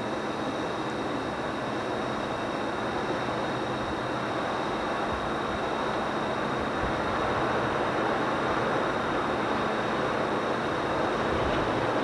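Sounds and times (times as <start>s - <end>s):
diesel locomotive engine roar: 0.0s - 12.0s.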